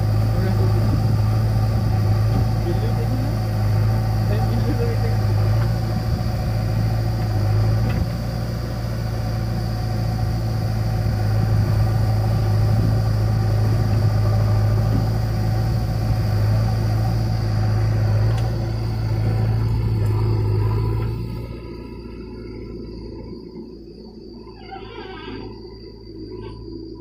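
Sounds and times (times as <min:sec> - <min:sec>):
hydraulic arm loading soil: 0:00.0 - 0:22.2
diesel engines humming: 0:00.0 - 0:27.0.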